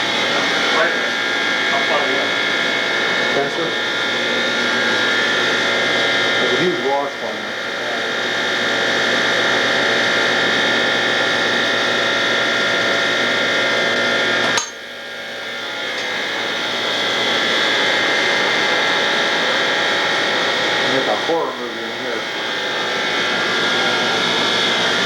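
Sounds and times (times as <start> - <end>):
dairy machinery humming: 0.0 - 25.0.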